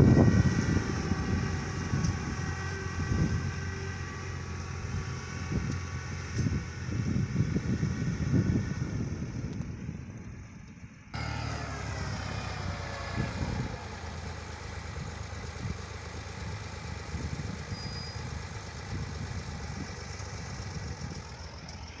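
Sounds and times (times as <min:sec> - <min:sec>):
construction vehicle engines running: 0:00.0 - 0:22.0
engine running steadily: 0:00.0 - 0:22.0.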